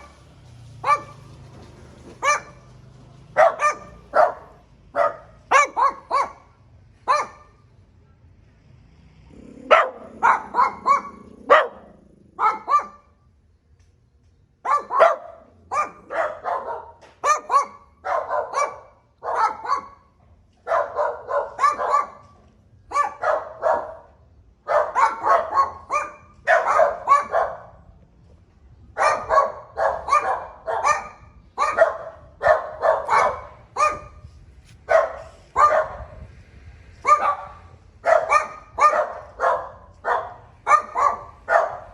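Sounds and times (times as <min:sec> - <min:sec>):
dog barking: 0:00.0 - 0:01.4, 0:02.0 - 0:07.6, 0:09.6 - 0:13.1, 0:14.6 - 0:27.9, 0:29.0 - 0:36.3, 0:37.0 - 0:41.9.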